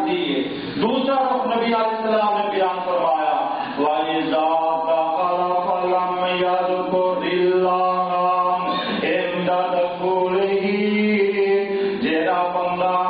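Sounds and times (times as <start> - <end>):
man chanting religious recitation: 0.0 - 13.0.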